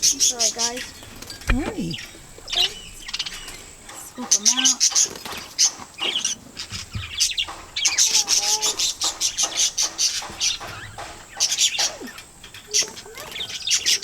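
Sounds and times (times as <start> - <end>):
parakeets chattering: 0.0 - 14.0.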